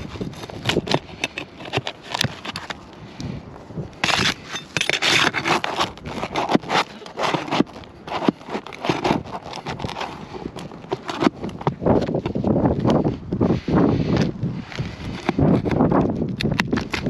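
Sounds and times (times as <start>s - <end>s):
tool scraping roof shingles: 0.0s - 3.2s, 3.9s - 17.0s.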